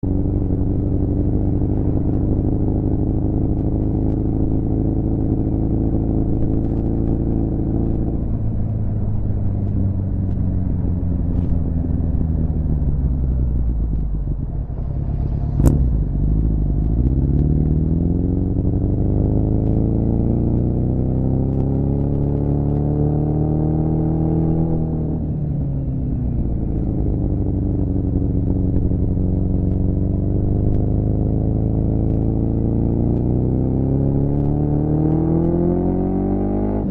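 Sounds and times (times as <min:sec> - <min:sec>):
motorcycle engine running loud: 0:00.0 - 0:36.9.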